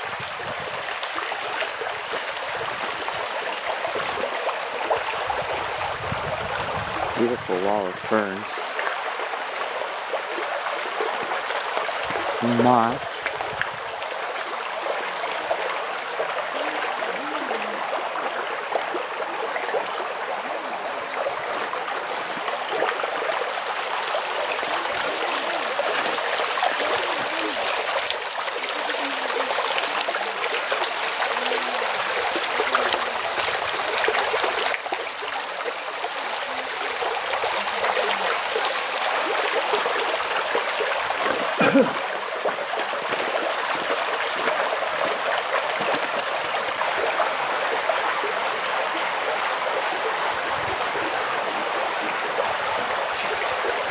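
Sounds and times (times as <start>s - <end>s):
creek flowing over pebbles: 0.0s - 53.9s.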